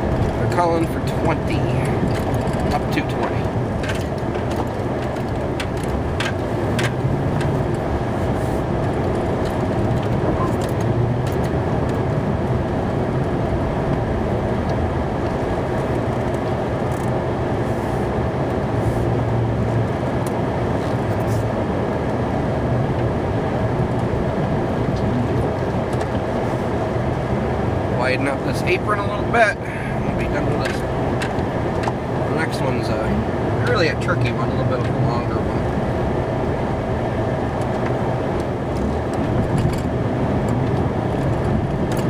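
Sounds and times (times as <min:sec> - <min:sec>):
truck engine hum: 0:00.0 - 0:42.0.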